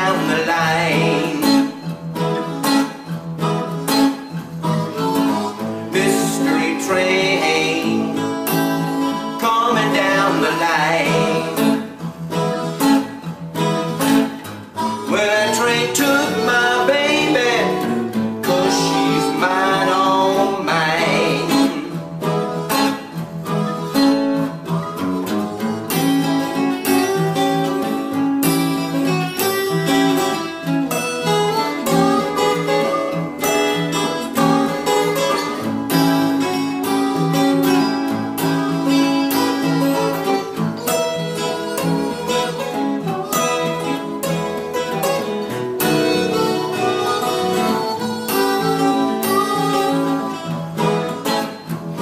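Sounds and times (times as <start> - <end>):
blues guitars picking and strumming: 0.0 - 52.0.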